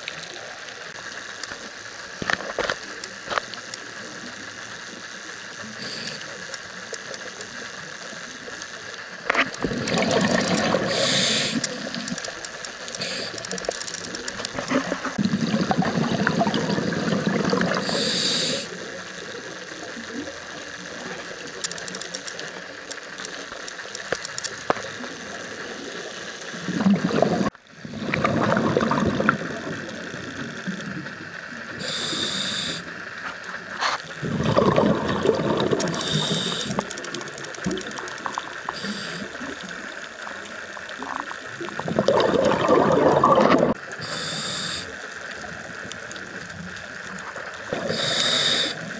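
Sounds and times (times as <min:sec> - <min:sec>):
regulator hiss: 0:00.0 - 0:27.9, 0:29.0 - 0:34.5, 0:35.6 - 0:41.8, 0:43.7 - 0:48.9
underwater bubbles gurgling: 0:00.0 - 0:48.9.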